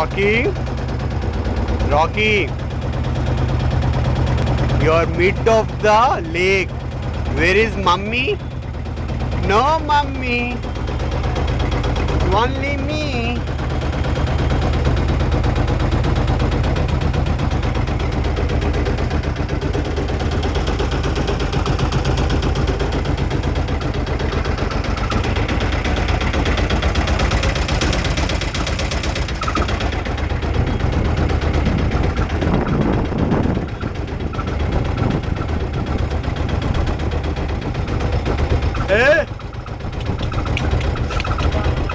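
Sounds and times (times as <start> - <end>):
motorboat engine chugging: 0.0 - 41.9.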